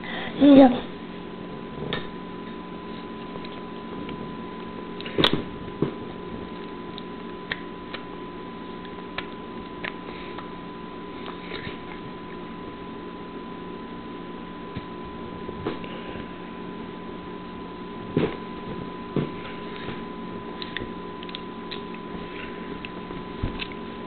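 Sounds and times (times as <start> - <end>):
low hum with high tone: 0.0 - 24.0.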